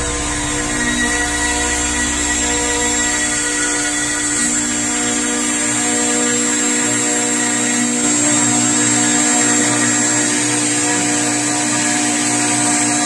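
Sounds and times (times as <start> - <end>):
milling machine spindle whining: 0.0 - 13.0.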